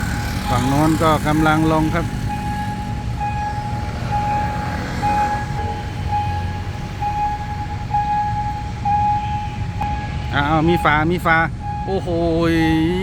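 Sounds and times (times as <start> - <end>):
level crossing warning signal: 0.0 - 13.0
low rumble of vehicles: 0.0 - 13.0.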